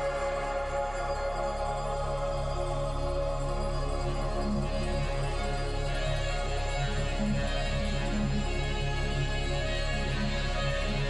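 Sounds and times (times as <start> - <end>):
slow held music tones: 0.0 - 11.0.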